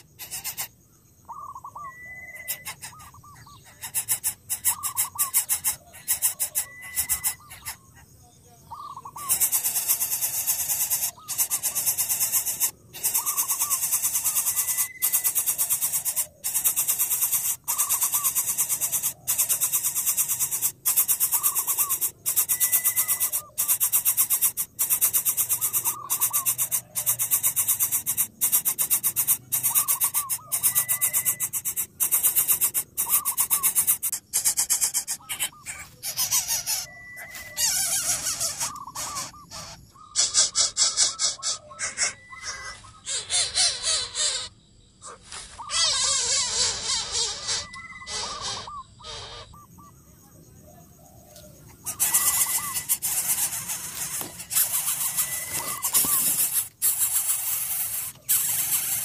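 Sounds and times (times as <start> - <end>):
bird nestling rasping calls: 0.0 - 7.9, 8.7 - 44.5, 51.3 - 59.0.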